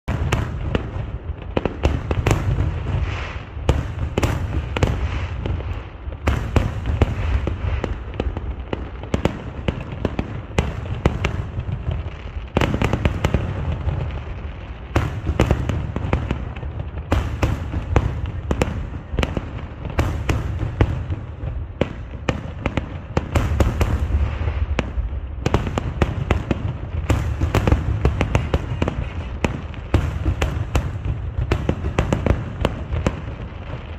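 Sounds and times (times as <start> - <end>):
fireworks cracking: 0.0 - 33.9.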